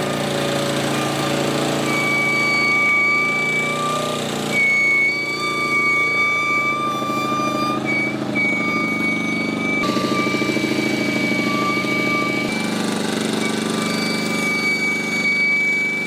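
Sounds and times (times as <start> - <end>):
low pulsing machinery: 0.0 - 16.0
machinery whining: 0.0 - 16.0.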